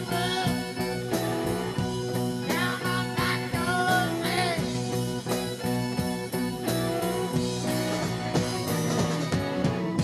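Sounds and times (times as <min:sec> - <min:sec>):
electric guitar: 0:00.0 - 0:10.0
rock band playing live: 0:00.0 - 0:10.0.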